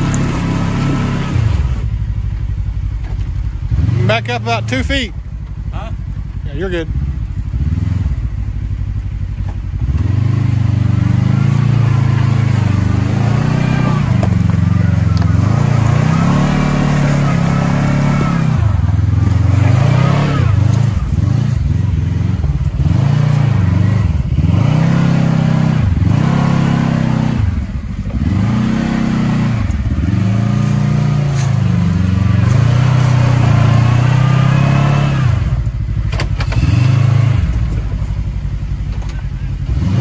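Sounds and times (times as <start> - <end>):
utility vehicle engine revving: 0.0 - 40.0.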